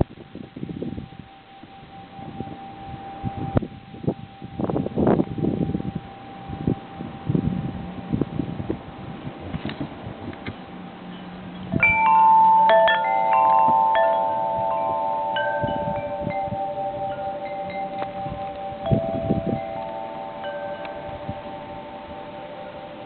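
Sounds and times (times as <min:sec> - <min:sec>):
metal wind chimes ringing: 0:00.0 - 0:08.4, 0:11.0 - 0:23.0
wind rumbling on microphone: 0:00.0 - 0:23.0.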